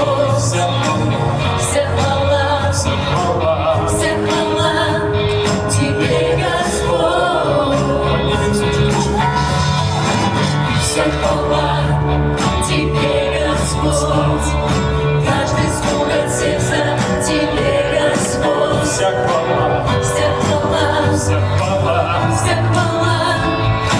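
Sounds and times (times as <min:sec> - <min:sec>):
bass guitar: 0:00.0 - 0:23.9
drums: 0:00.0 - 0:23.9
person singing: 0:00.0 - 0:23.9.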